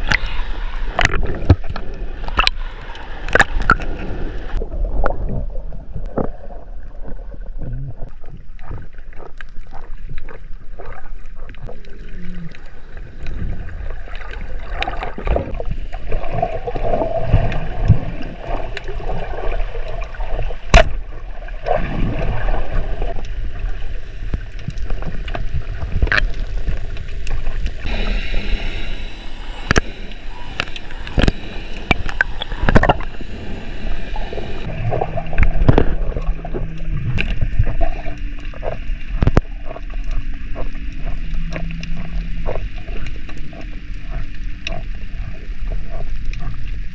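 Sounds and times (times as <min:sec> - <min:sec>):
water sloshing and gurgling: 0:00.0 - 0:46.9.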